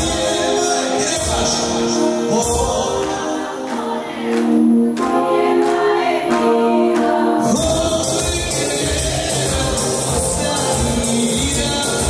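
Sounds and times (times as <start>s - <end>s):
voices singing held notes: 0.0s - 12.0s.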